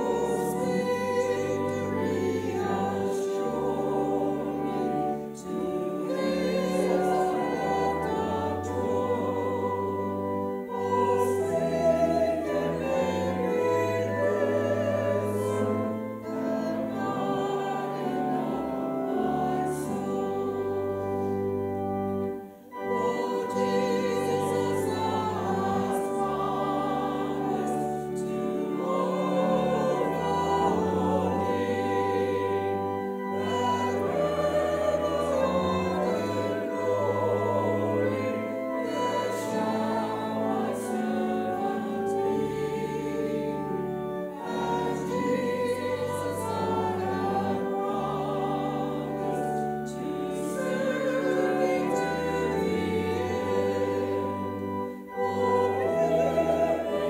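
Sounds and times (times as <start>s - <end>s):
choir singing a hymn: 0.0s - 57.0s
piano accompaniment: 0.0s - 57.0s.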